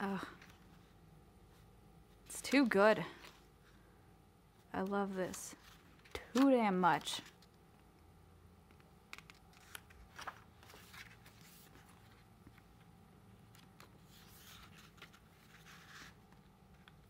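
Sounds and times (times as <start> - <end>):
pages rustling and turning: 0.4 - 3.5, 4.6 - 7.9, 8.7 - 17.0.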